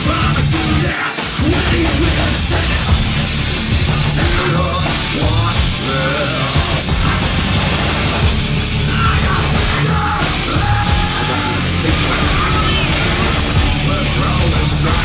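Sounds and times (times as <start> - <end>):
live heavy rock band: 0.0 - 15.0.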